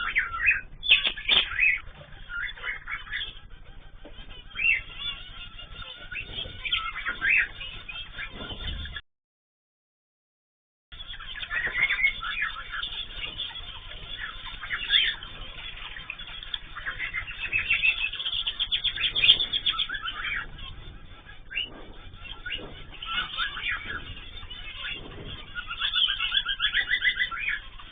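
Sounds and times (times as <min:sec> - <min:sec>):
cage birds chirping: 0:00.0 - 0:09.0, 0:10.9 - 0:27.9.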